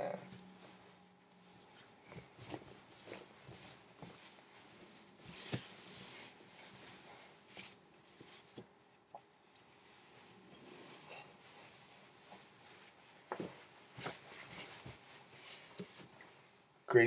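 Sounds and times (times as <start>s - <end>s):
fabric rustling: 0.2s - 16.8s.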